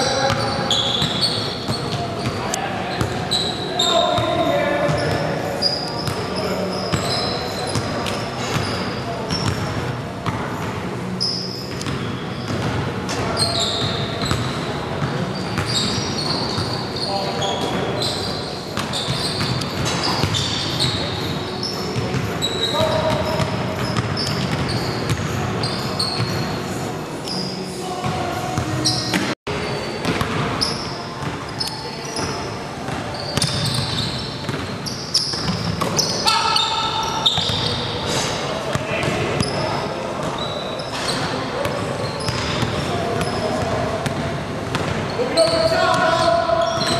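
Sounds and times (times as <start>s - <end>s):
sneakers squeaking: 0.0s - 46.9s.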